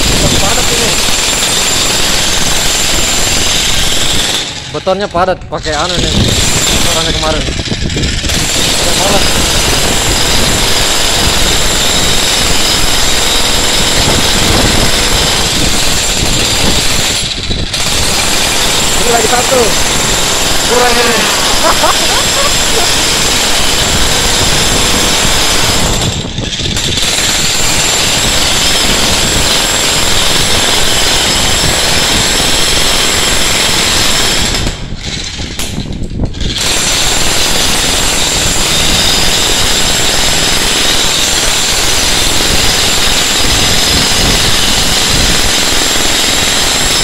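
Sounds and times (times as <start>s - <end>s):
demolition hammer chiseling concrete: 0.0s - 47.0s.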